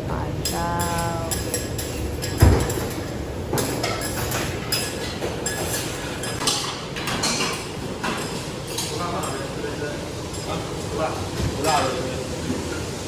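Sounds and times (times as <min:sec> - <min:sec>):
restaurant din: 0:00.0 - 0:13.0.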